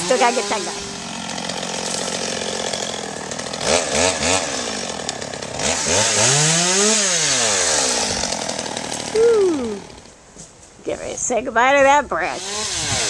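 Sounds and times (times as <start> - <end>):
chainsaw revving: 0.0 - 10.1, 12.3 - 13.0.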